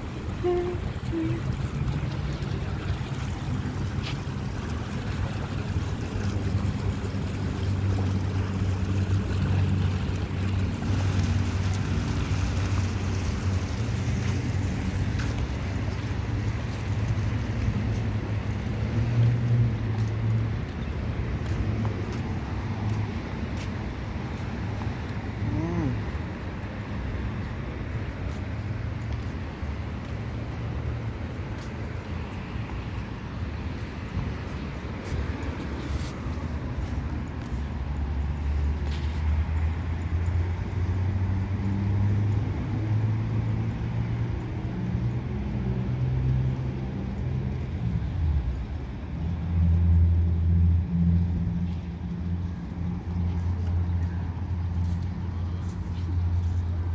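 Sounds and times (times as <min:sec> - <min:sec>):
fountain water splashing: 0:00.0 - 0:56.9.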